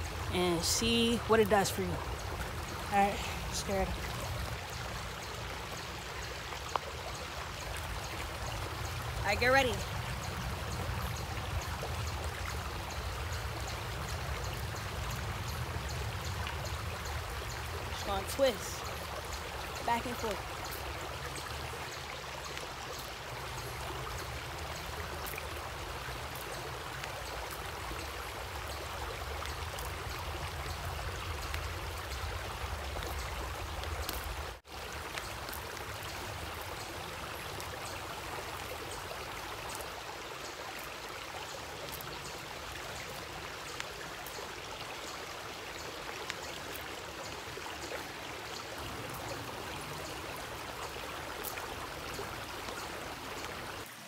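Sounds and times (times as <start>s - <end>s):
stream of water running: 0.0s - 54.0s.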